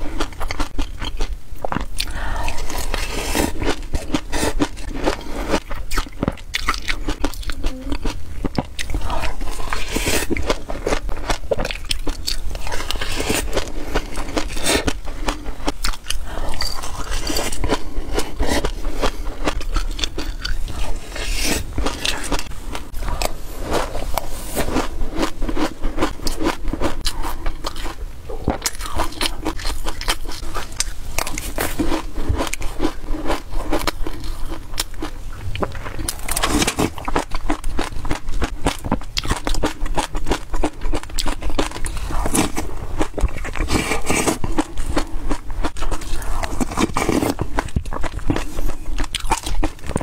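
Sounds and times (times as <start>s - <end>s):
crunching seeds being chewed: 0.0s - 50.0s.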